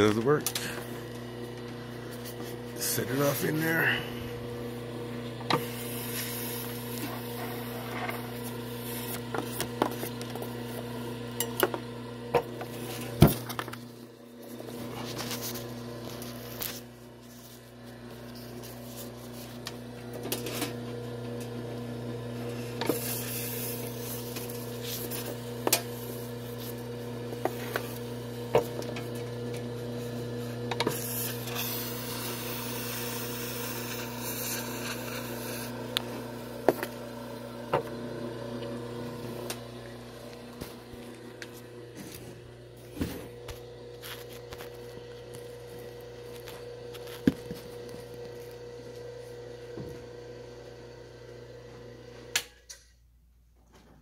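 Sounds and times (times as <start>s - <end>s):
wire stripper motor hum: 0.0s - 52.5s.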